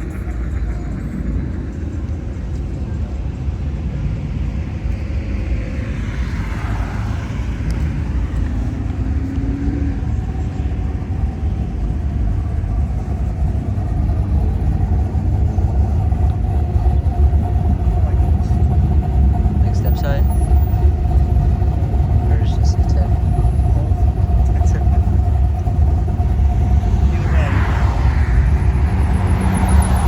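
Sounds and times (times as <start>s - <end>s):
car engines rumbling: 0.0s - 30.0s
steady whine: 0.0s - 30.0s.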